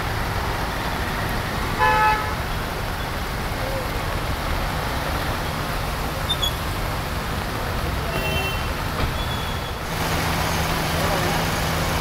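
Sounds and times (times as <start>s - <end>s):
engines and road traffic rumble: 0.0s - 12.0s
rain hissing: 0.0s - 12.0s.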